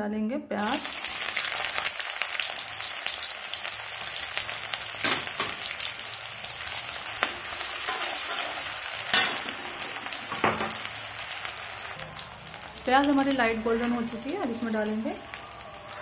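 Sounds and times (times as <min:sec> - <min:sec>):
onions sizzling in oil: 0:00.6 - 0:16.0.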